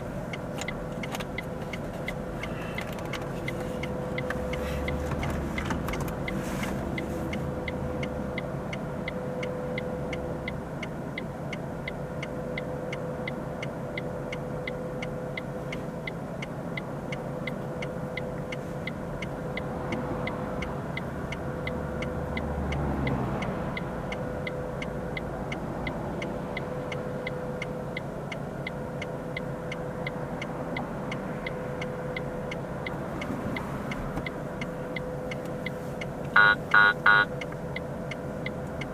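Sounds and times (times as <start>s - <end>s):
car engine and road rumble: 0.0s - 38.9s
light even ticking: 5.6s - 38.9s.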